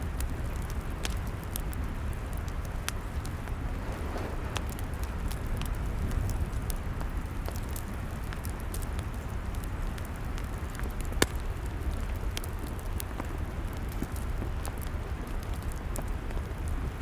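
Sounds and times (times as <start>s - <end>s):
log fire crackling: 0.0s - 17.0s
fire popping: 0.1s - 17.0s.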